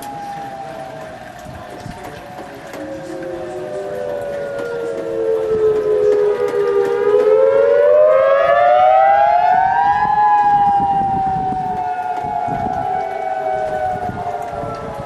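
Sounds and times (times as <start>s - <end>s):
tornado siren wailing: 0.0s - 15.0s.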